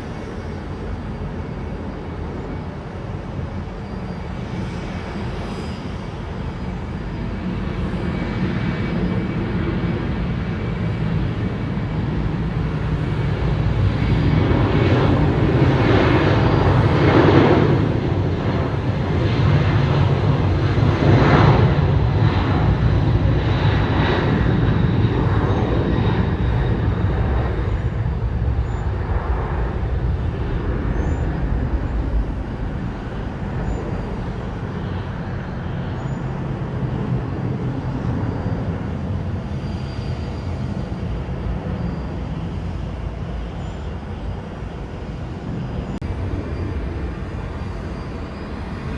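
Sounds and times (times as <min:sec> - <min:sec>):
jet engines passing by: 0:00.0 - 0:48.9.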